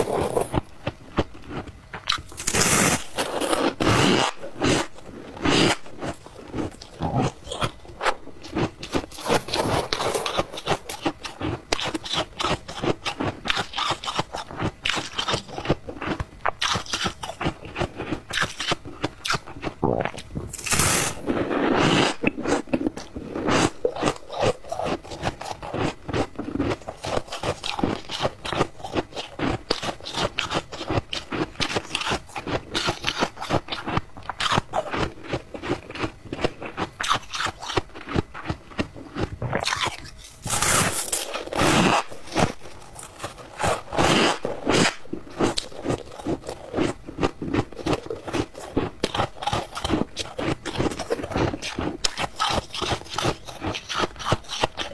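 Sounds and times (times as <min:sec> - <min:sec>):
chewing and crunching ice: 0:00.0 - 0:54.9.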